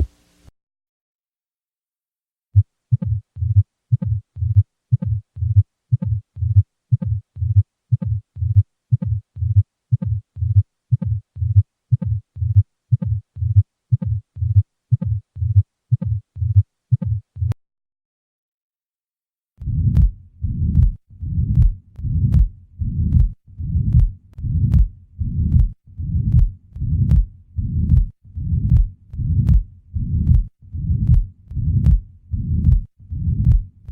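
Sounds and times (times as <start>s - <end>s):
heartbeat thumps: 2.6s - 17.6s, 19.6s - 33.9s.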